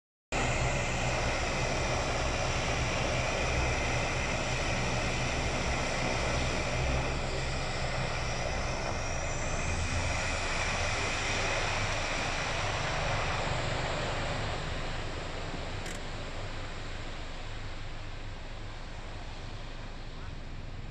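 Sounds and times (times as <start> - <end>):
low propeller drone: 0.3 - 20.9
turboprop engines whining: 0.3 - 20.9.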